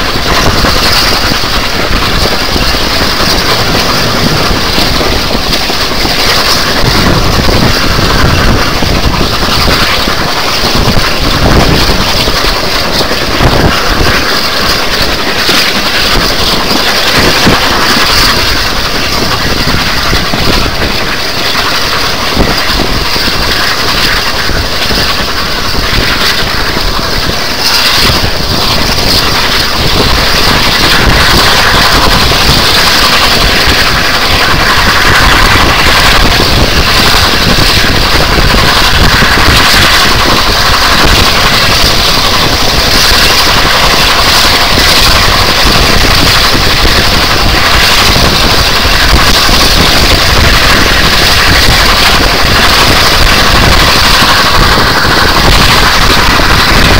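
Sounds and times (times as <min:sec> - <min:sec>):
train running noise: 0:00.0 - 0:56.9
wind buffeting microphone: 0:00.0 - 0:56.9.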